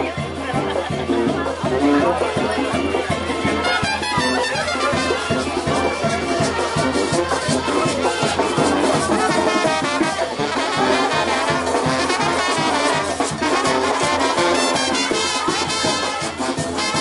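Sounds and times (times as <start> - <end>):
brass band playing dance music: 0.0 - 17.0.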